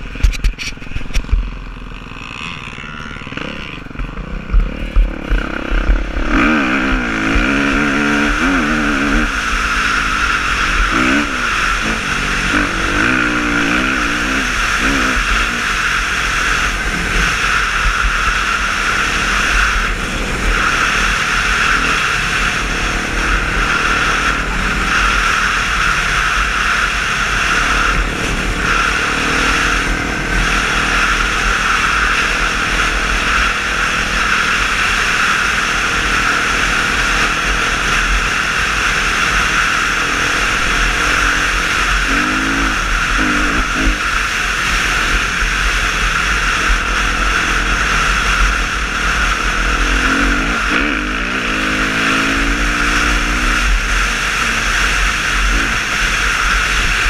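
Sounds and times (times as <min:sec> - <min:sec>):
motorcycle engine running: 0:00.0 - 0:57.0
rushing wind noise: 0:00.0 - 0:57.0.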